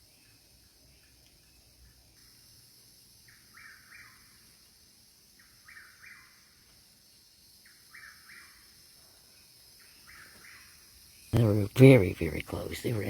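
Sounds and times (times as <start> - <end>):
night insects: 0.0 - 13.0.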